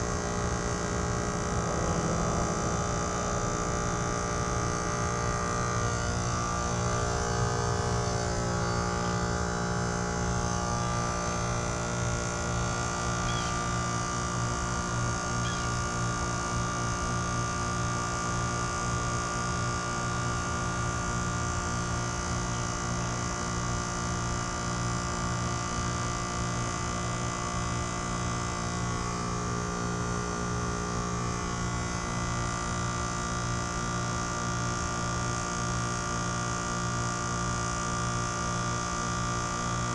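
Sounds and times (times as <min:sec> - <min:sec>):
heat pump compressor hum: 0:00.0 - 0:39.9.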